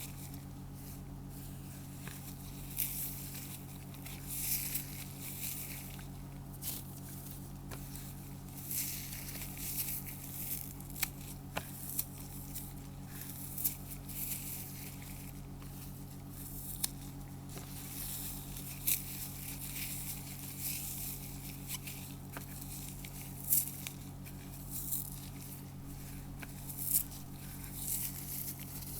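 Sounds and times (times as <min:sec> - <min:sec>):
floral foam crunching and snapping: 0:00.0 - 0:28.9
steady low hum: 0:00.0 - 0:28.9.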